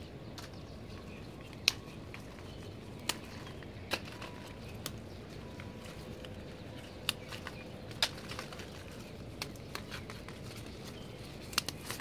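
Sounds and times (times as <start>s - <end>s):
leaves and stems rustling: 0.0s - 12.0s
bean pods snapping: 0.3s - 12.0s.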